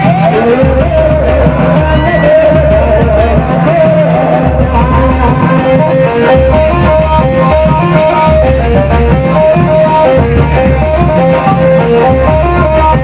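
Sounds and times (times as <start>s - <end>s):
lead melody with bending notes: 0.0s - 13.0s.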